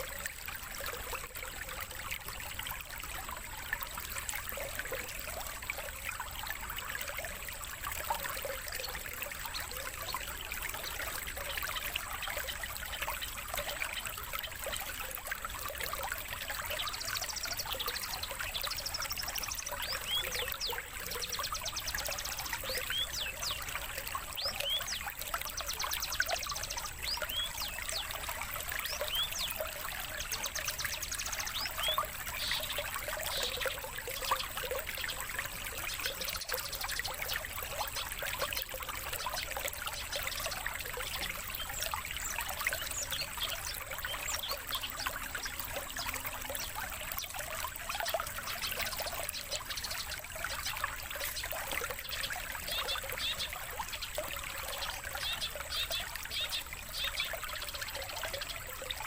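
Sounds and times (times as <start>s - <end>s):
water trickling: 0.0s - 59.0s
songbirds chirping and trilling: 7.0s - 59.0s.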